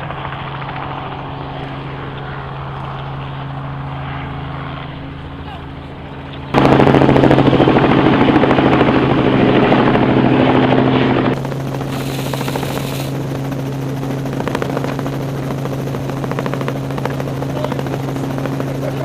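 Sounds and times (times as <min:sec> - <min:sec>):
helicopter rotor droning: 0:00.0 - 0:19.0.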